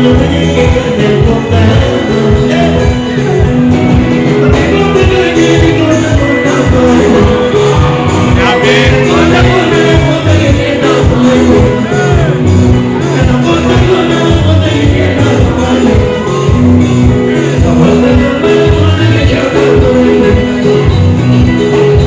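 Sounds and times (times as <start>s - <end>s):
live band music with singing: 0.0s - 22.0s.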